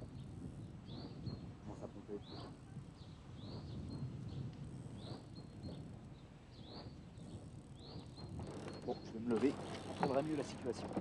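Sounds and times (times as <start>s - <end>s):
bird chirping: 0.0s - 10.2s.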